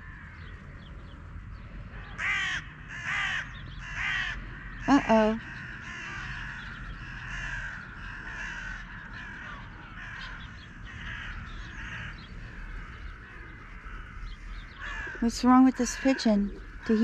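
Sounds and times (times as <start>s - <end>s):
crows cawing: 0.0s - 0.6s, 2.0s - 17.0s.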